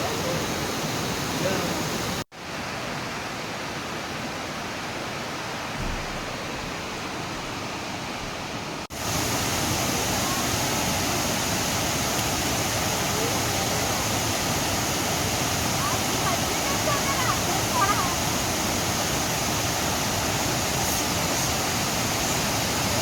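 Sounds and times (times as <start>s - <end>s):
waterfall roar: 0.0s - 23.0s.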